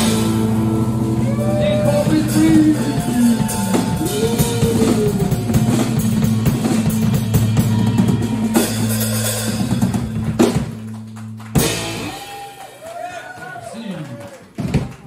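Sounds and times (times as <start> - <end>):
drum kit fills: 0.0 - 12.9.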